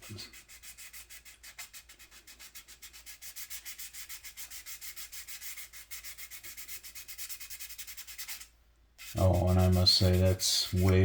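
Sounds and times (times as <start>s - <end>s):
sandpaper rubbing on plastic: 0.0s - 11.0s.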